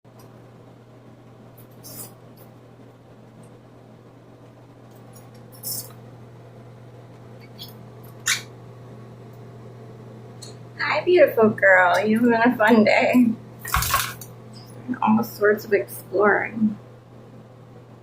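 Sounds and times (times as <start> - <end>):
steady low hum: 0.1 - 18.0.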